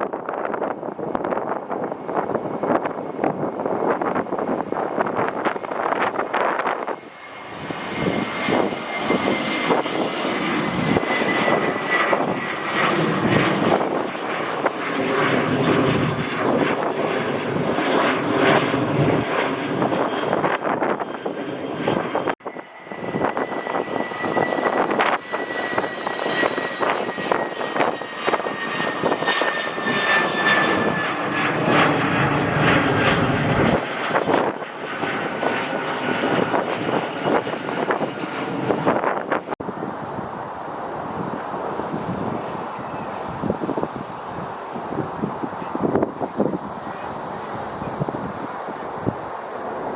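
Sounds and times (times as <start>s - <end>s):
airliner engines roaring: 0.0s - 49.9s.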